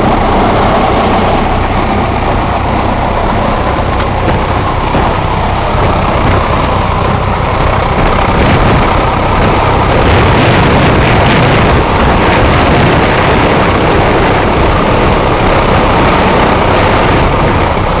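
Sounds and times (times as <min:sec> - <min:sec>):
light aircraft engine humming: 0:00.0 - 0:18.0.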